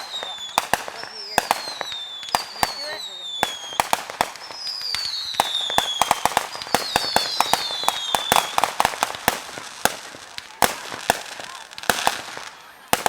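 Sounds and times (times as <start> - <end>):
fireworks cracking and popping: 0.0 - 13.0
fireworks whistling: 0.0 - 13.0.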